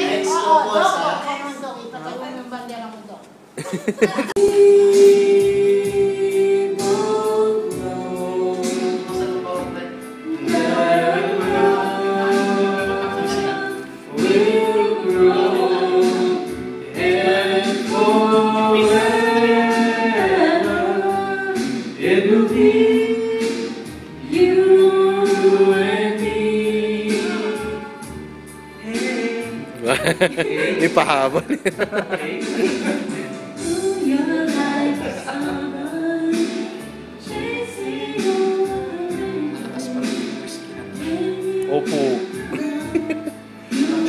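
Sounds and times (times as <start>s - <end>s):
backing track with steady beat: 3.6s - 44.0s
woman singing karaoke: 3.7s - 16.8s, 17.6s - 29.6s, 33.5s - 44.0s.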